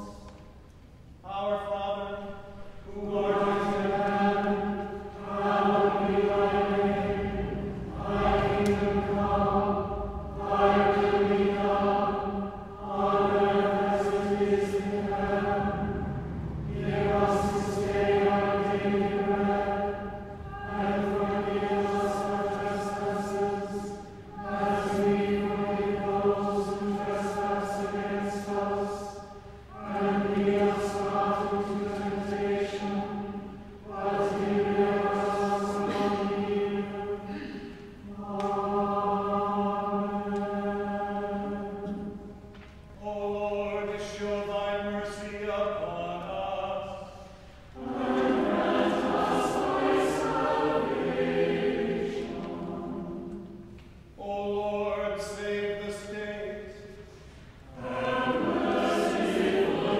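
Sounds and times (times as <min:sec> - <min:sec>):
church choir chanting: 0:00.0 - 0:00.6, 0:01.2 - 0:59.9.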